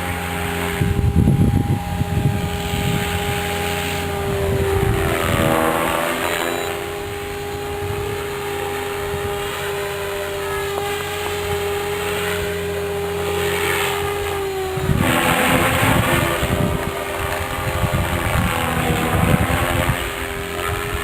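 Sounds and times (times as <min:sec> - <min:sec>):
rc helicopter motor whine: 0:00.0 - 0:21.0
rotor noise: 0:00.0 - 0:21.0
wind buffeting microphone: 0:00.0 - 0:21.0.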